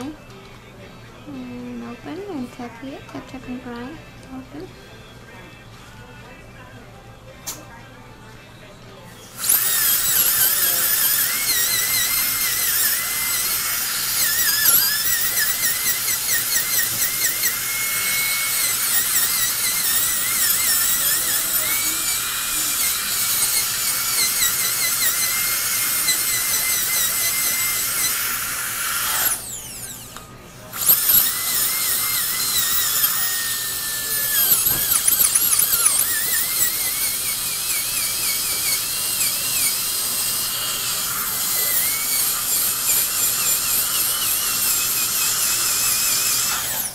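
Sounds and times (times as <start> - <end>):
dental drill whining: 9.1 - 46.9.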